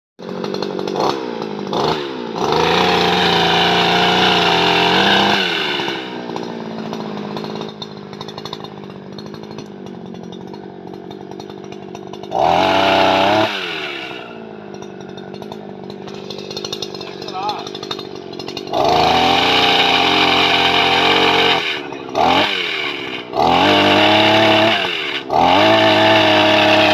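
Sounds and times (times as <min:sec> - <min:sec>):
small petrol engine revving: 0:00.2 - 0:26.9.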